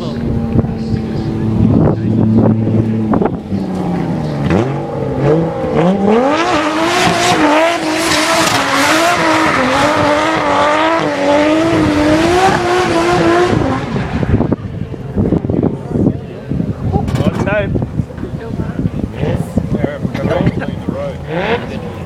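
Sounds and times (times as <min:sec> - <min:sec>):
car engine accelerating: 0:00.0 - 0:18.1, 0:21.1 - 0:22.0.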